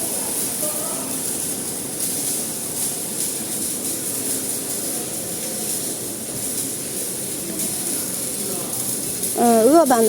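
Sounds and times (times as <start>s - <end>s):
constant high hiss: 0.0s - 10.0s.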